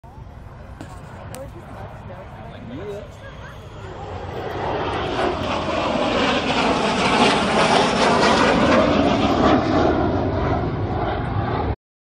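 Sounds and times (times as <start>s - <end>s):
jet flyby roar: 0.1s - 11.8s.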